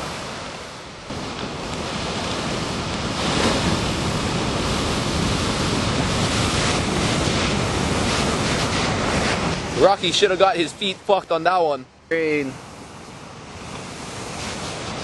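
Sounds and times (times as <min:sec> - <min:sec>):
wind on microphone: 0:00.0 - 0:11.0, 0:12.4 - 0:15.0
ocean wave breaking: 0:00.0 - 0:15.0.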